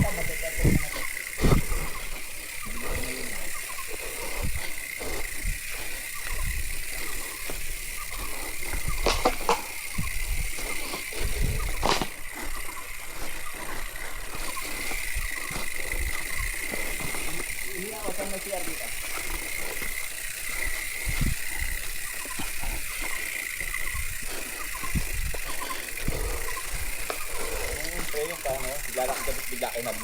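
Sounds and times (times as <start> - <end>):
mountain bike rattling and knocking: 0.0 - 30.0.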